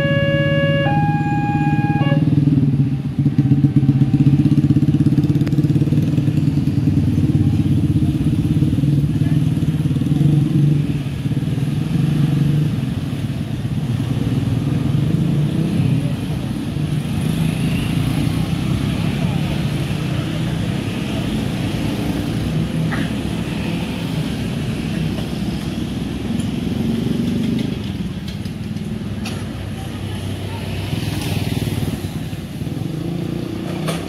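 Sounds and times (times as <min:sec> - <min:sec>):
motorcycle engines droning: 0:00.0 - 0:34.0.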